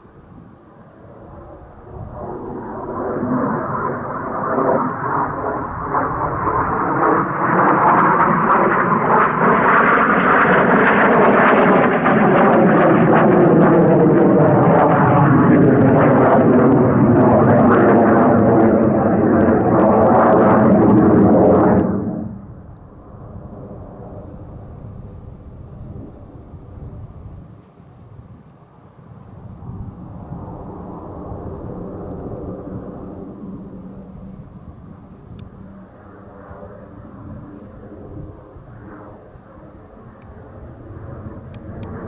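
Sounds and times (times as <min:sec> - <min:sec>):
jet roaring overhead: 0:00.0 - 0:42.0.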